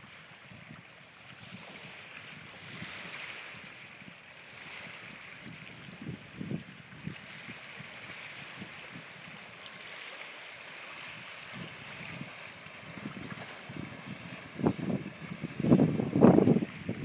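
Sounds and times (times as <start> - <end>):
choppy water: 0.0 - 17.0
wind buffeting microphone: 0.0 - 17.0
wind hiss: 0.0 - 17.0.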